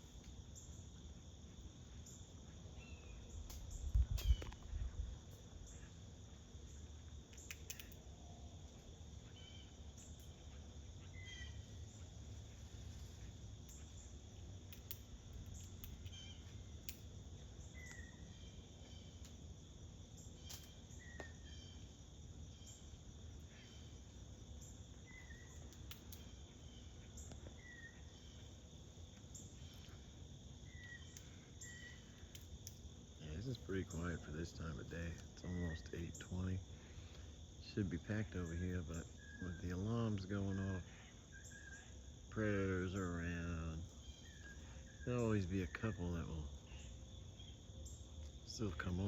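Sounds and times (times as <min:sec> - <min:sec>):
insect drone: 0:00.0 - 0:49.0
squirrel alarm calls: 0:01.9 - 0:06.0, 0:06.6 - 0:08.1, 0:09.2 - 0:19.3, 0:20.2 - 0:21.9, 0:22.5 - 0:49.0.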